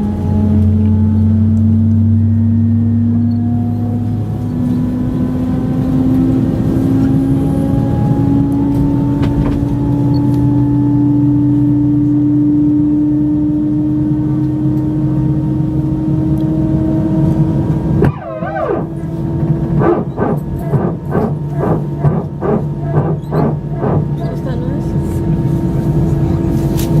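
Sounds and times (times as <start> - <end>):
jet engines from inside cabin: 0.0 - 27.0.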